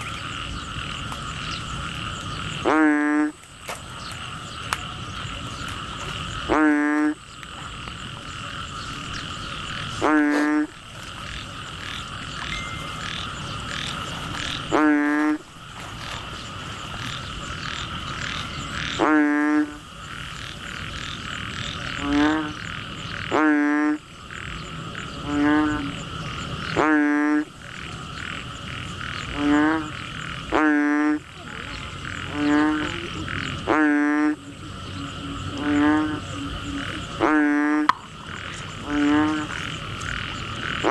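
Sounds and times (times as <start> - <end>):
frogs croaking: 0.0 - 40.9
high drone of insects: 0.0 - 40.9.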